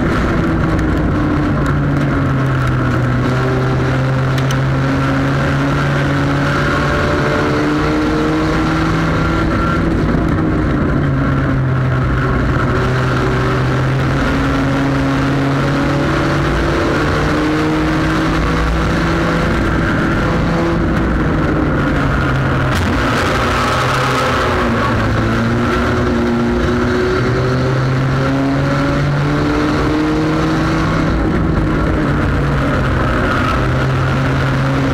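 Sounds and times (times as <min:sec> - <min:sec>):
race car engine under throttle: 0:00.0 - 0:34.9.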